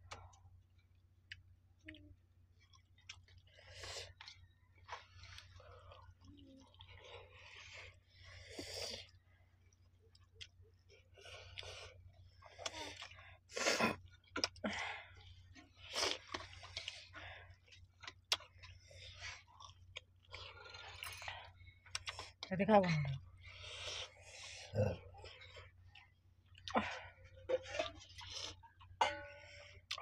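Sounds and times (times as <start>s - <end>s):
people chewing and lip-smacking: 0.0s - 30.0s.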